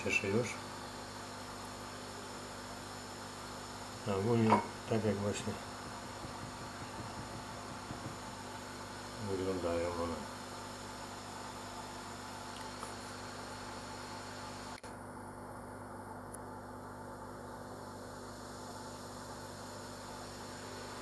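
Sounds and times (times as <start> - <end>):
low mains hum: 0.0 - 21.0.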